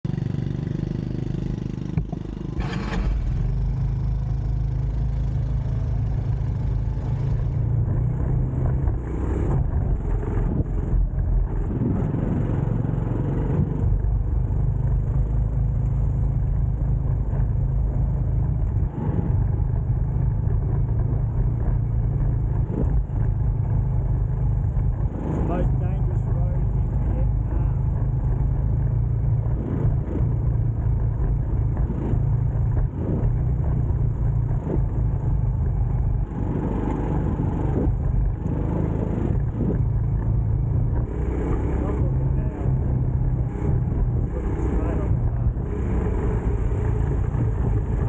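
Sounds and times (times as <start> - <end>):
motorbike engine running: 0.0 - 48.0
low rumble on microphone: 1.2 - 48.0.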